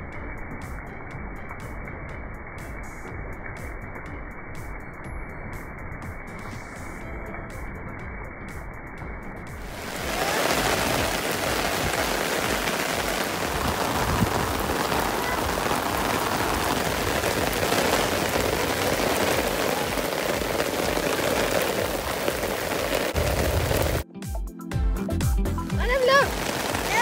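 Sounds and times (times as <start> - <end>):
rain falling: 0.0 - 24.0, 25.7 - 27.0.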